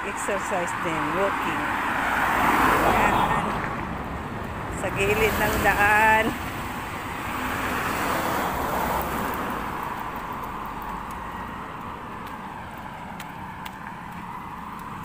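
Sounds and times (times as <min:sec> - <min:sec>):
traffic hum: 0:00.0 - 0:15.0
vehicle passing close by: 0:00.0 - 0:15.0.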